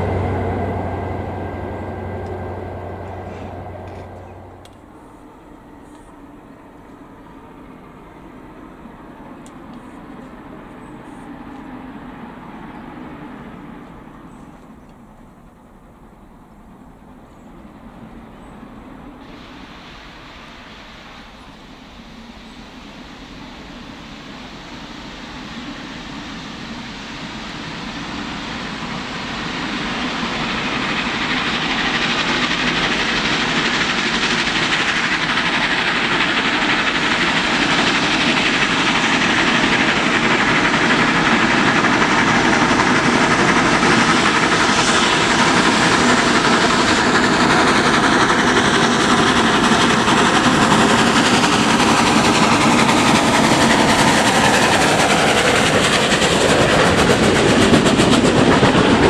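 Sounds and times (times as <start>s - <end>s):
train wheels rolling: 0.0s - 16.0s, 19.1s - 59.0s
steam locomotive exhaust: 0.0s - 59.0s.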